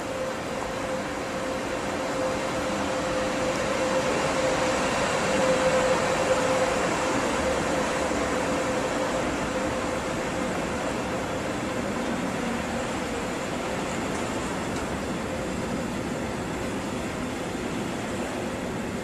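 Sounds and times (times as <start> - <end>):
train wheels rolling on rails: 0.0 - 19.0.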